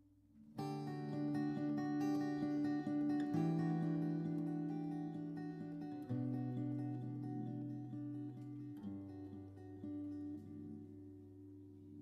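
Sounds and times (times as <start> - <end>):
acoustic guitar chords: 0.4 - 12.0.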